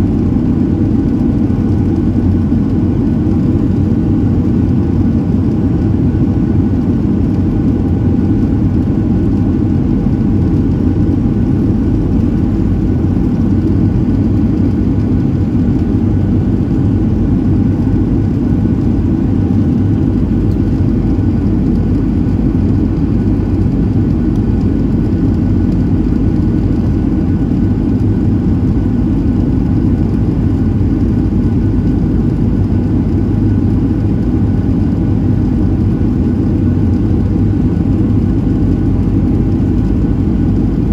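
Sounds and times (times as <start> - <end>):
airplane cabin engine hum: 0.0 - 40.9.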